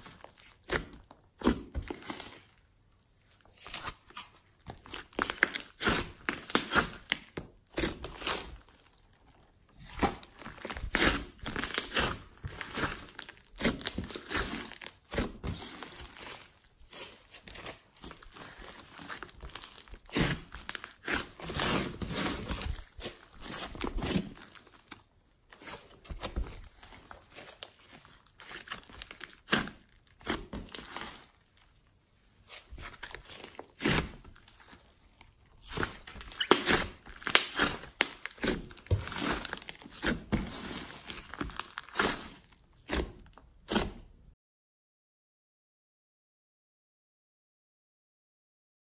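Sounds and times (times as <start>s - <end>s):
slime crackling and squishing: 0.0s - 44.3s.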